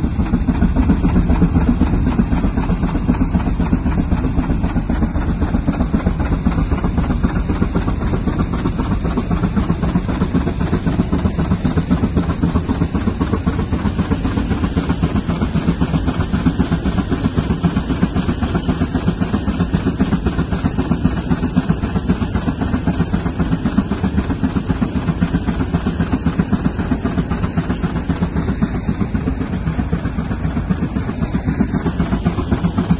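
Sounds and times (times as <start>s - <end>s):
steam engine exhaust beating: 0.0s - 32.9s.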